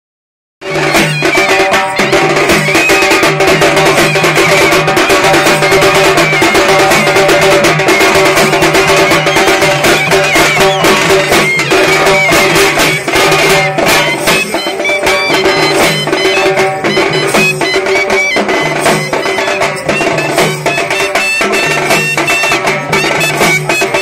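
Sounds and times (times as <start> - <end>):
hand drums beating: 0.6 - 24.0
reedy wind melody: 0.7 - 24.0.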